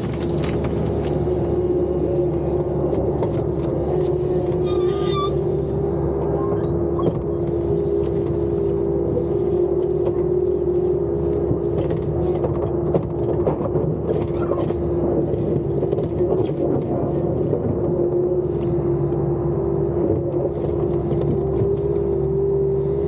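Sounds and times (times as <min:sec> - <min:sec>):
skid-steer loader engine drone: 0:00.0 - 0:23.0.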